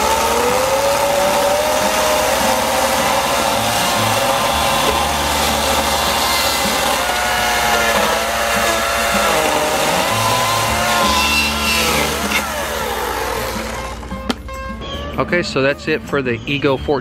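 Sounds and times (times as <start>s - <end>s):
electric chainsaw cutting log: 0.0s - 14.4s.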